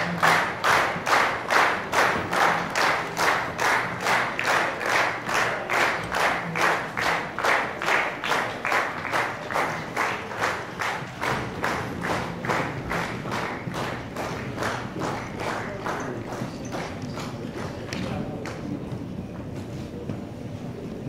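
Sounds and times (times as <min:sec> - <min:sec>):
crowd clapping in unison: 0:00.0 - 0:19.0.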